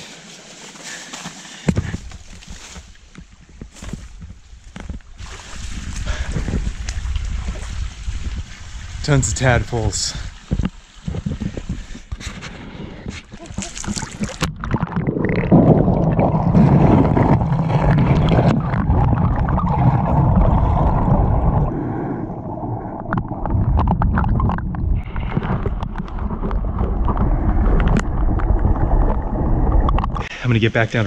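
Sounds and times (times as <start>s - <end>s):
underwater creek water gurgling: 4.8s - 31.0s.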